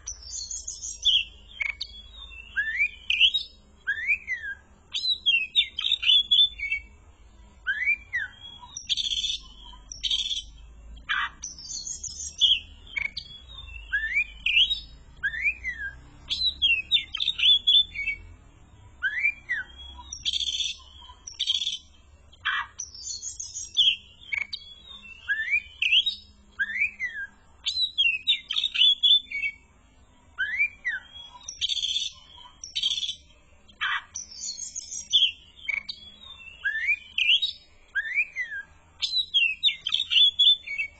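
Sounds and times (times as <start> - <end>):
songbird whistling and chattering: 0.0 - 7.0, 7.6 - 18.3, 18.9 - 29.6, 30.4 - 40.9.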